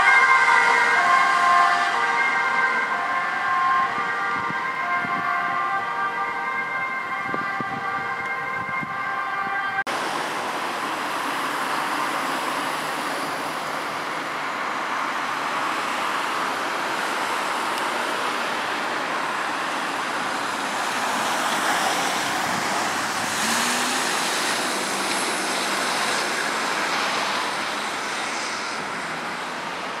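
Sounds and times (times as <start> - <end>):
ambulance driving past: 0.0 - 30.0
ambulance siren: 0.0 - 30.0
road traffic noise: 0.0 - 30.0.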